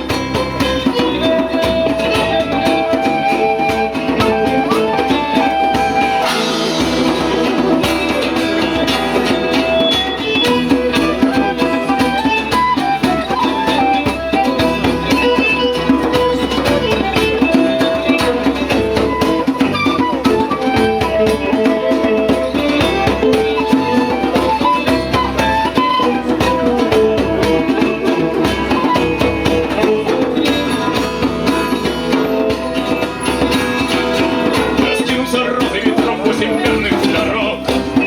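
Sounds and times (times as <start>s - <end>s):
drums in steady rhythm: 0.0s - 38.0s
plucked guitar-like strings: 0.0s - 38.0s.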